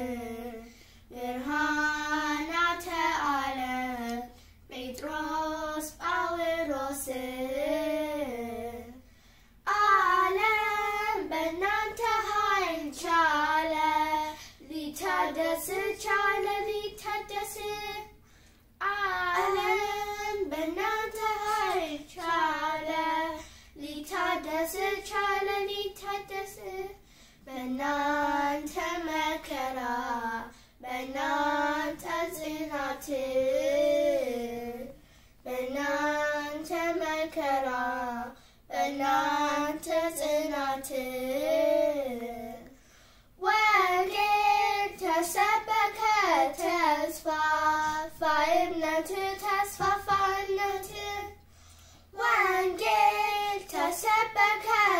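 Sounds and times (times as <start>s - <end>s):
girls singing a hymn unaccompanied: 0.0s - 18.2s, 18.8s - 54.9s.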